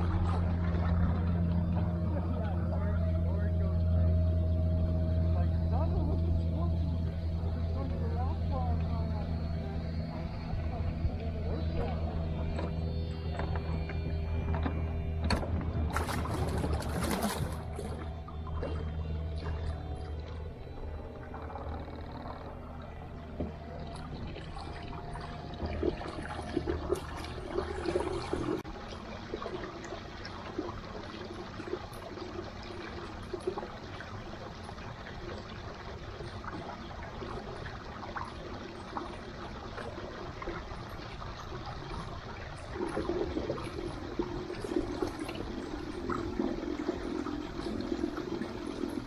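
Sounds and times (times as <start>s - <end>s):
water splashing along boat hulls: 0.0s - 49.0s.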